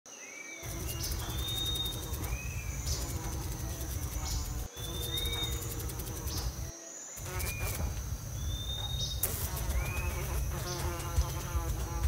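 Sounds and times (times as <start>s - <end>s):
high insect drone: 0.1s - 12.0s.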